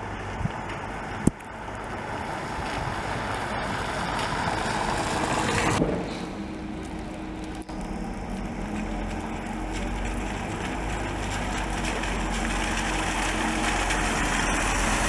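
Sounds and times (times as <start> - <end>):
bus engine hum: 0.0 - 15.0
tyres hissing on wet street: 0.0 - 15.0.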